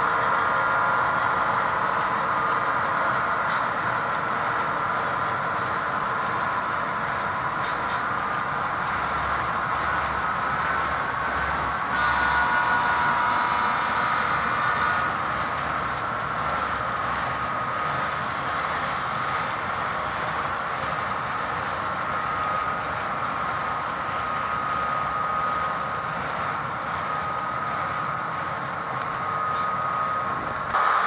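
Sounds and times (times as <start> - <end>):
high whine: 0.0 - 31.0
model train cars rolling: 0.0 - 31.0.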